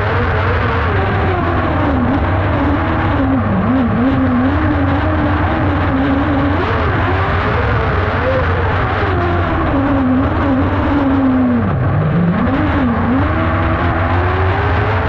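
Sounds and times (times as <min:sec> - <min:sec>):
kart engine revving: 0:00.0 - 0:15.0.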